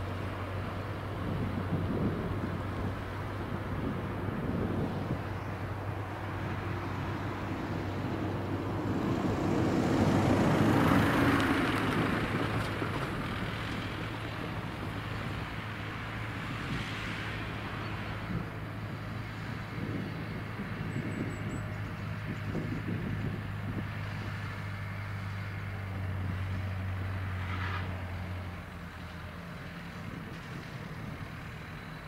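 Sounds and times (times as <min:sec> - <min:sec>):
road vehicle hum: 0:00.0 - 0:32.0
vehicle passing by: 0:00.0 - 0:32.0.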